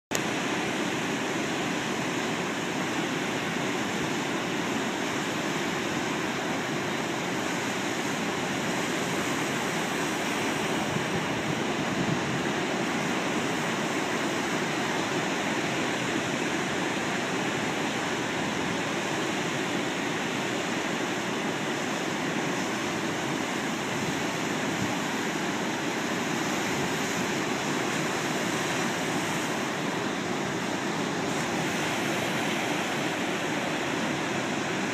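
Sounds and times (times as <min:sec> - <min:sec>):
ocean surf roaring: 0:00.1 - 0:34.9.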